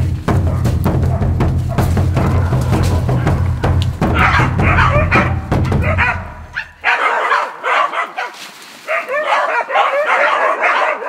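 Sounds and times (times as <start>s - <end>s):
dogs barking and yelping: 0.2s - 11.0s.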